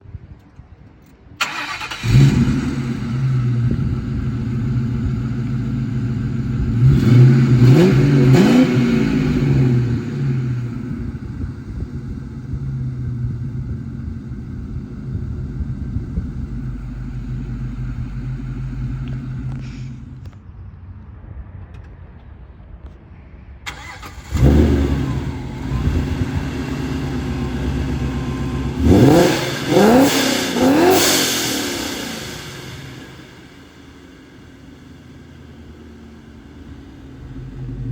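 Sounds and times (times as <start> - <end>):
car engine revving: 1.4 - 20.3, 23.7 - 37.9
car engine idling: 1.4 - 20.4, 23.7 - 37.9
car engine starting up: 1.4 - 20.4, 23.7 - 37.9.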